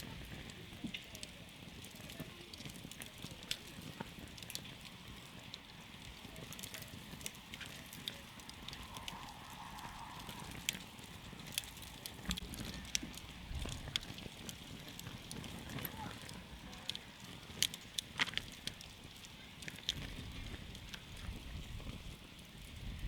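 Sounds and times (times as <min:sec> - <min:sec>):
campfire wood crackling: 0:00.0 - 0:23.0
low rush of flame: 0:00.0 - 0:23.0.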